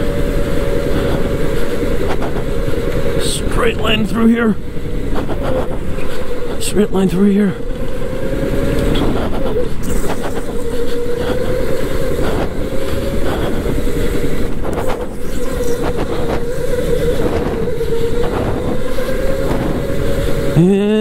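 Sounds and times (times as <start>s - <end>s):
electric motor whining: 0.0s - 21.0s
kart rumble: 0.0s - 21.0s.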